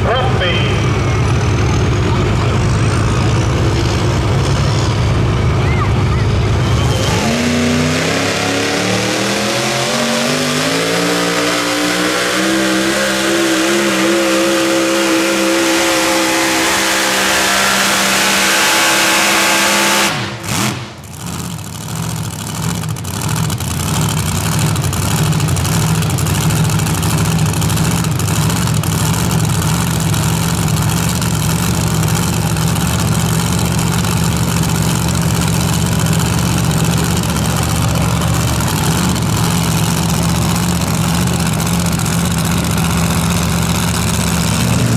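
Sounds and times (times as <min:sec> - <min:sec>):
engine running at low revs: 0:00.0 - 0:44.9
truck engine at full throttle: 0:00.0 - 0:44.9.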